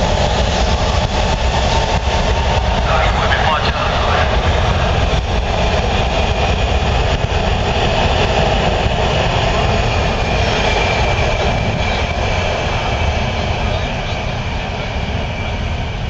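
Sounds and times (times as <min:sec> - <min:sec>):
subway train rumbling past: 0:00.0 - 0:16.0.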